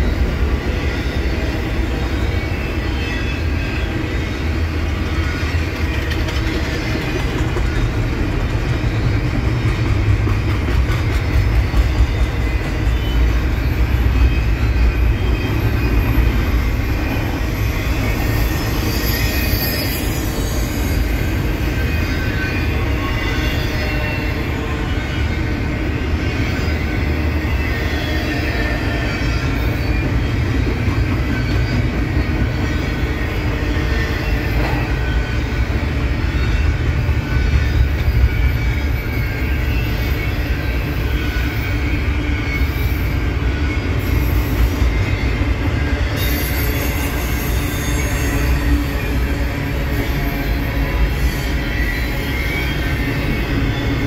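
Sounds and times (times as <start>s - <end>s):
high wheel squeals: 0.0s - 9.7s, 11.2s - 54.0s
train wheels rumbling on rails: 0.0s - 54.0s.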